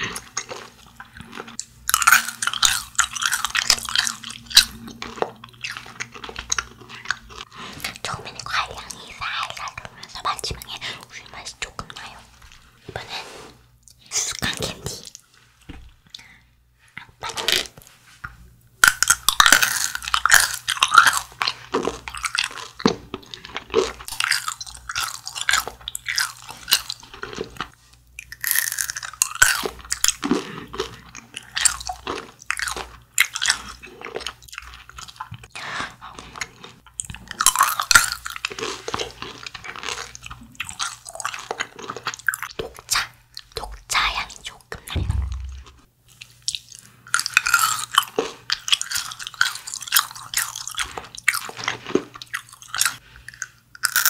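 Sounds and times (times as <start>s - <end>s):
crunching and chewing candy: 0.0s - 13.1s, 18.8s - 54.0s.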